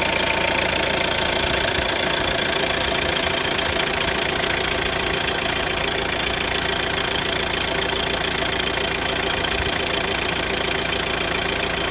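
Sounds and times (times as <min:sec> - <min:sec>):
diesel engine idling with clattering tick: 0:00.0 - 0:11.9.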